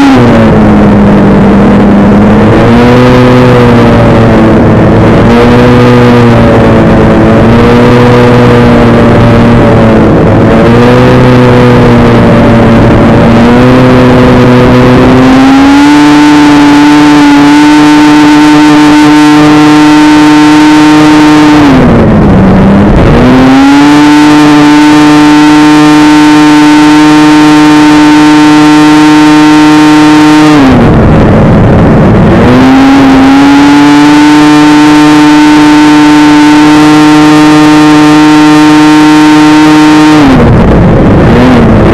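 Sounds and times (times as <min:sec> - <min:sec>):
snowmobile engine revving high: 0:00.0 - 0:41.9.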